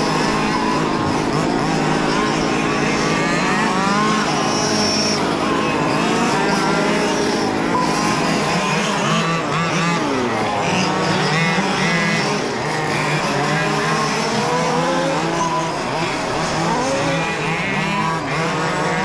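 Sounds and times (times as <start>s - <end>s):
rc car motors revving: 0.0s - 19.0s.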